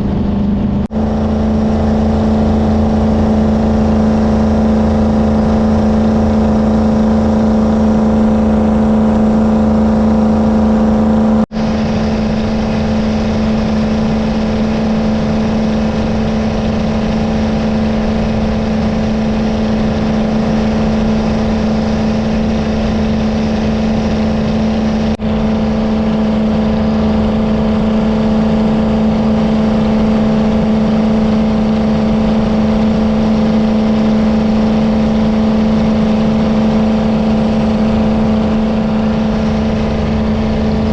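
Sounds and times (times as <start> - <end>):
jet boat engine droning: 0.0 - 40.9.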